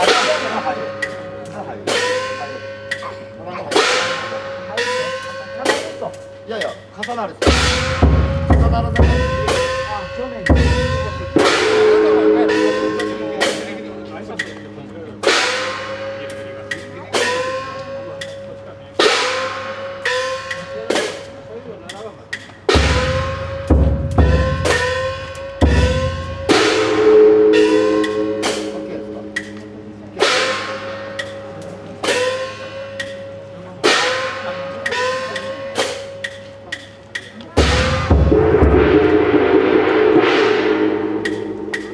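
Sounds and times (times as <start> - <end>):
heavy percussion strokes ringing: 0.0 - 41.9
drum beat: 3.7 - 18.4, 22.3 - 29.6, 30.2 - 41.9.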